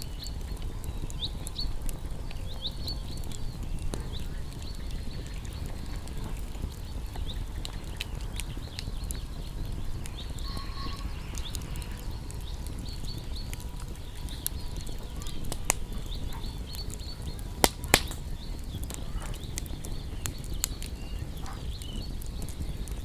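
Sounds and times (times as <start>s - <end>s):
small birds chirping: 0.0s - 23.0s
wood fire crackling and popping: 0.0s - 23.0s.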